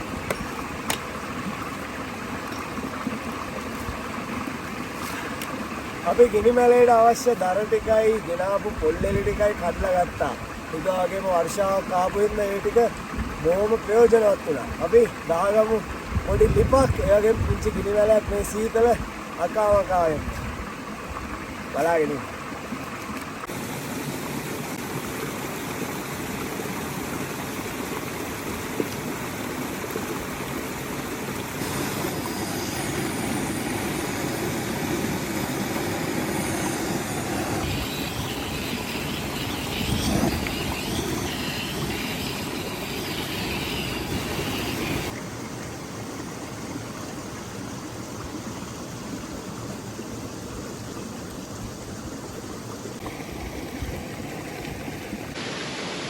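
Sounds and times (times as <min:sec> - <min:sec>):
waterfall rushing: 0:00.0 - 0:15.8, 0:17.3 - 0:46.1, 0:52.8 - 0:56.0.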